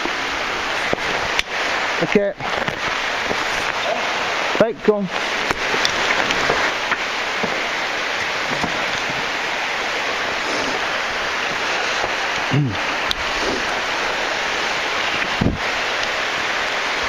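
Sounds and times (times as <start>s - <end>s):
water cascading rush: 0.0s - 17.0s.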